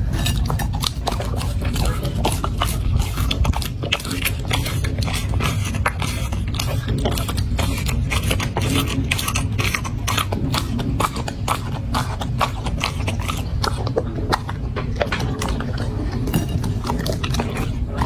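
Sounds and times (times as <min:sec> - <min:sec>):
dog crunching food: 0:00.0 - 0:18.0.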